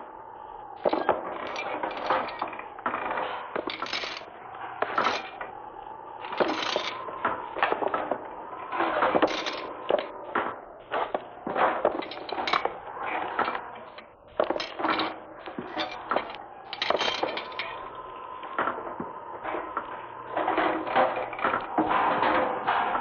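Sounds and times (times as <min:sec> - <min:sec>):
irregular clattering and knocking: 0:00.0 - 0:23.0.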